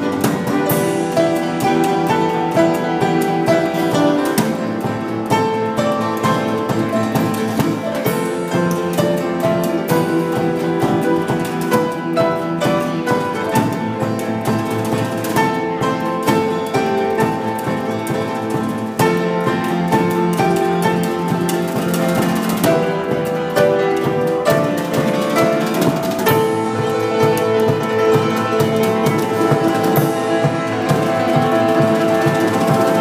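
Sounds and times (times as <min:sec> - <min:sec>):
drum kit with cymbals: 0:00.0 - 0:33.0
piano melody: 0:00.0 - 0:33.0
upright double bass: 0:00.0 - 0:33.0.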